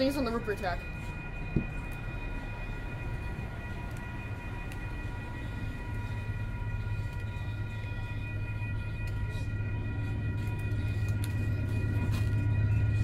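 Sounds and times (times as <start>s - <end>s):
high steady whine: 0.0s - 13.0s
train rumbling: 0.0s - 13.0s.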